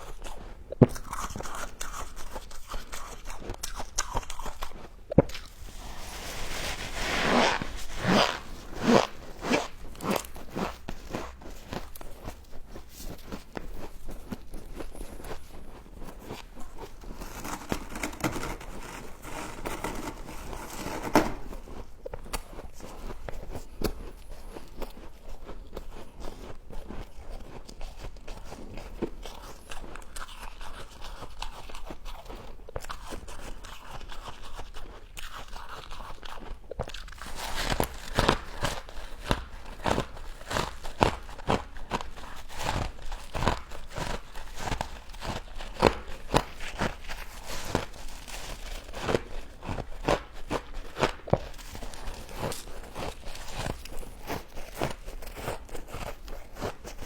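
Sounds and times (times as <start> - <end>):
chewing crunchy ice: 0.0 - 5.8, 8.0 - 57.0.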